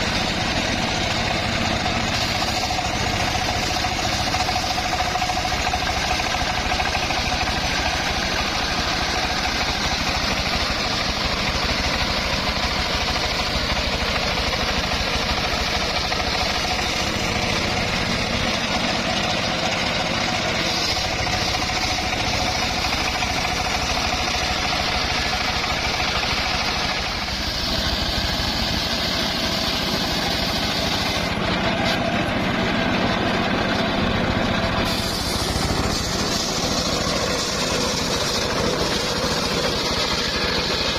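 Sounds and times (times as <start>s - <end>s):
circular sawmill hum: 0.0s - 40.9s
sawmill engine throb: 0.0s - 40.9s.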